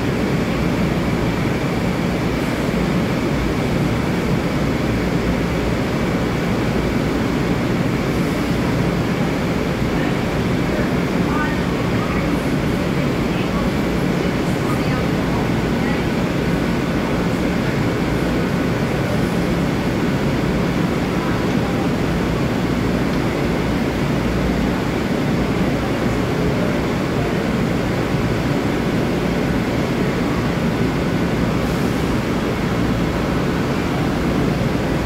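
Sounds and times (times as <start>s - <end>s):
train equipment deep hum: 0.0s - 35.0s.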